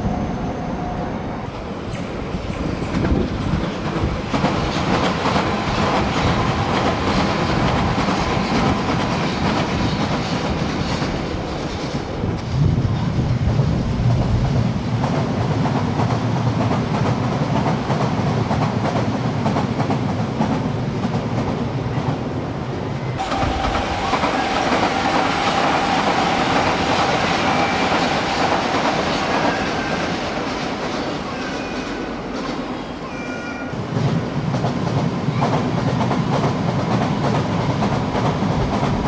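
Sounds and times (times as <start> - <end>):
train wheels rumbling and clacking: 1.5 - 39.0.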